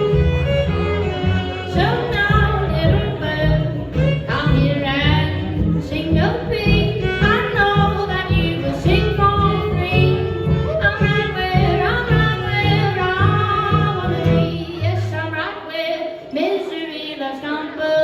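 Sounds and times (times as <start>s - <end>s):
woman singing live: 1.7s - 18.0s.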